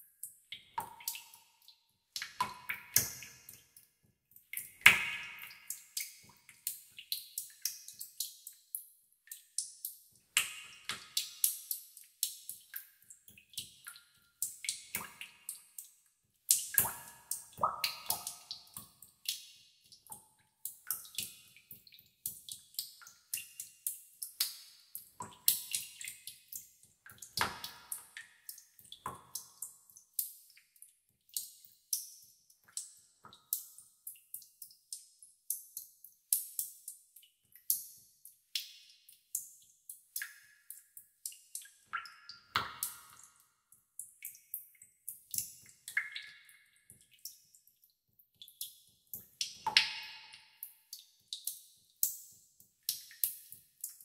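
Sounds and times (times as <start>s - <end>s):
water drops plinking into water: 0.2s - 3.8s, 4.4s - 37.0s, 40.1s - 47.7s, 48.4s - 54.0s.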